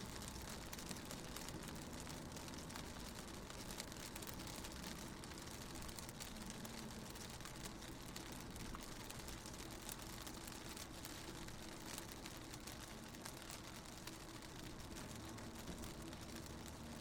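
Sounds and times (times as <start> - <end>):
raindrops hitting car window: 0.0 - 17.0.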